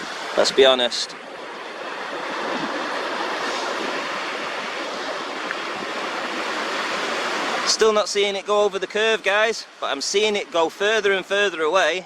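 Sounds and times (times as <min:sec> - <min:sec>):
sea waves washing on shore: 0:00.0 - 0:12.0.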